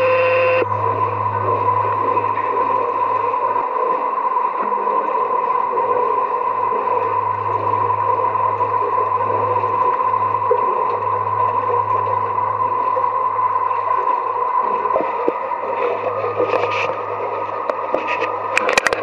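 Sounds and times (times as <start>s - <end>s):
sewage water rushing in tunnel: 0.6s - 19.0s.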